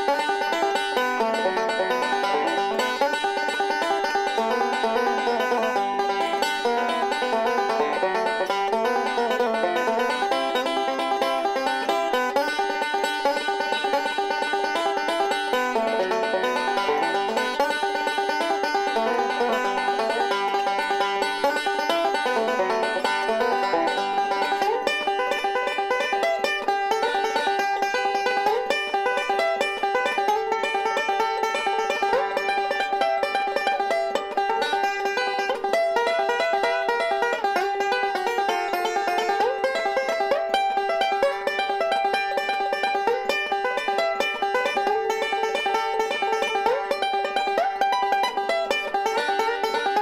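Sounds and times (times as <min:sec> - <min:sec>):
banjo picking: 0:00.0 - 0:50.0.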